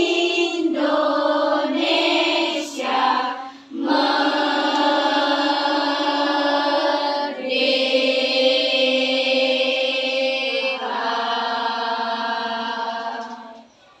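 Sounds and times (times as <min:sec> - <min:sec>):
children's choir singing held chords: 0:00.0 - 0:13.9.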